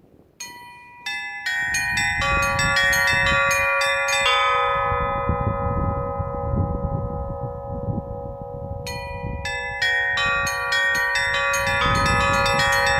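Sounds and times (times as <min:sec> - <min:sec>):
deep bell ringing: 0:00.4 - 0:12.9
lower bell ringing: 0:00.4 - 0:12.9
small high bells ringing: 0:00.4 - 0:12.9.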